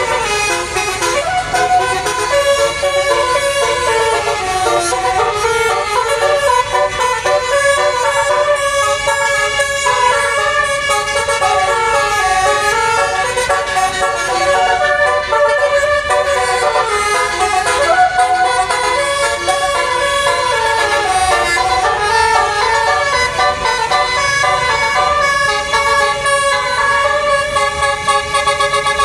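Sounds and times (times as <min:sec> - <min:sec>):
musical bus horn tune: 0:00.0 - 0:29.0.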